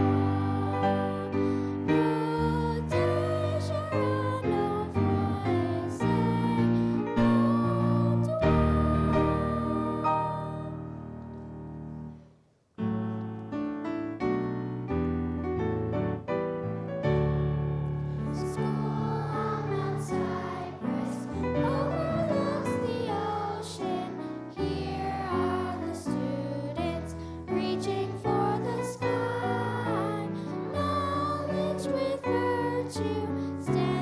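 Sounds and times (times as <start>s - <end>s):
young people singing: 0.0s - 11.4s, 18.2s - 34.0s
piano accompaniment: 0.0s - 12.2s, 12.8s - 34.0s.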